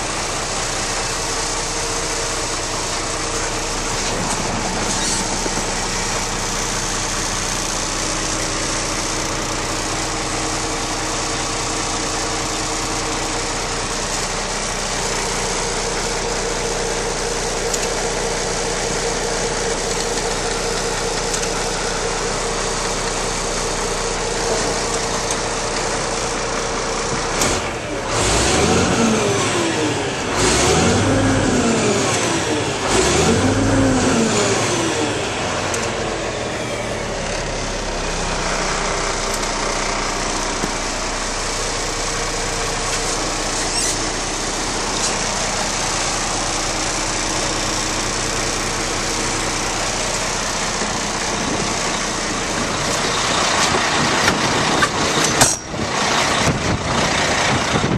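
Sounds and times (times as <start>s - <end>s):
diesel truck engine idling and revving: 0.0s - 57.9s.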